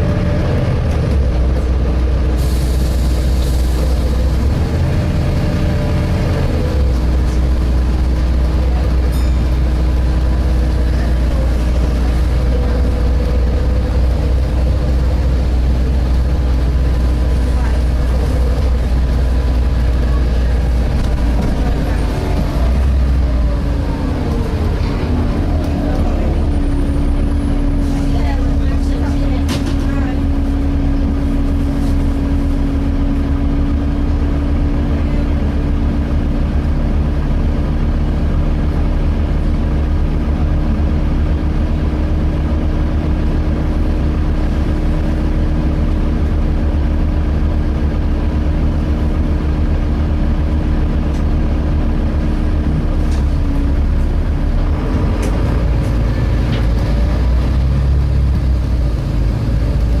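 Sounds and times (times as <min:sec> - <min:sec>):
bus diesel engine drone: 0:00.0 - 1:00.0.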